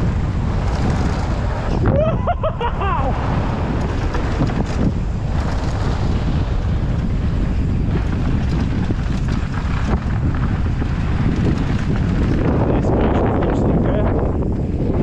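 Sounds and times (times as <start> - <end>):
bike clattering: 0.0 - 14.8
wind buffeting microphone: 0.0 - 15.0.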